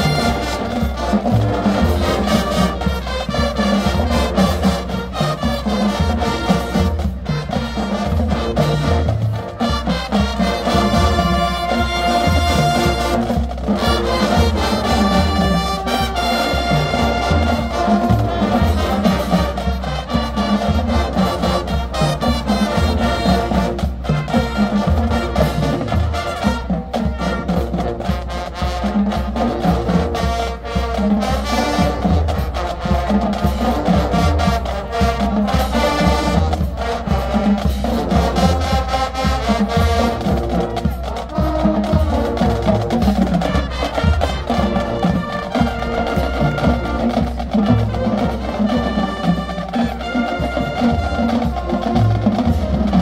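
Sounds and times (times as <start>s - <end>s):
brass playing a tune: 0.0s - 53.0s
drumline beat: 0.0s - 53.0s.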